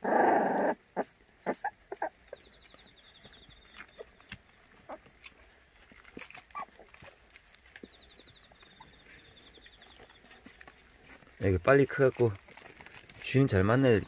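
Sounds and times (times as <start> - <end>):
puppies squeaking: 0.0 - 11.3
puppies snuffling: 0.0 - 14.0.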